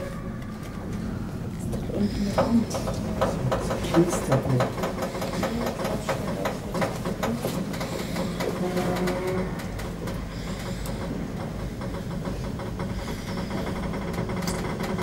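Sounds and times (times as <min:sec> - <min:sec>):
funicular clicking and rattling: 0:00.0 - 0:15.0.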